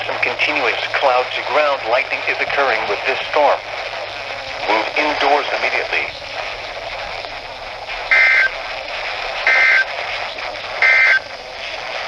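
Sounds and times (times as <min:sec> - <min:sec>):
radio hiss: 0:00.0 - 0:12.0
screechy data bursts: 0:00.6 - 0:12.0.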